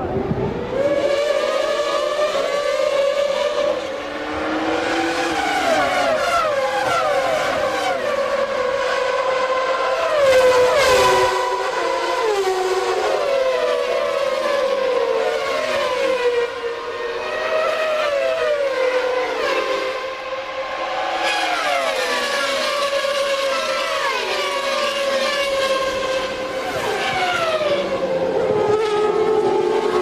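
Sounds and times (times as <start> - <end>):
racing car engines at high revs: 0.0 - 30.0.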